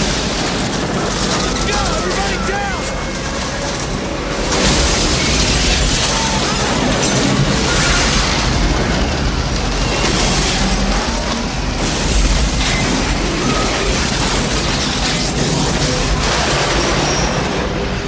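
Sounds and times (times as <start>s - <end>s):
loud rushing noise: 0.0s - 18.0s.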